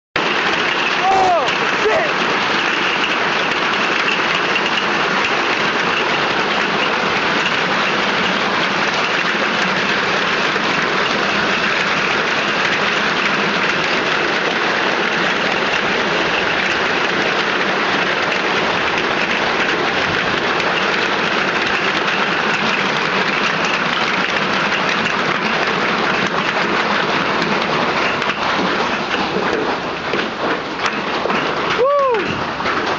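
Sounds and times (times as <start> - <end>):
hailstones falling: 0.2 - 32.9.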